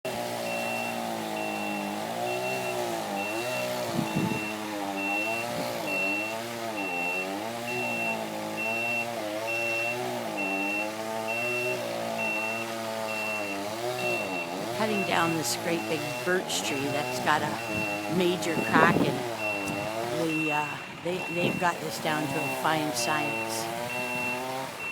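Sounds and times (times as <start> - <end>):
truck engine revving: 0.1 - 24.9
backup alarm beeping: 0.3 - 24.9.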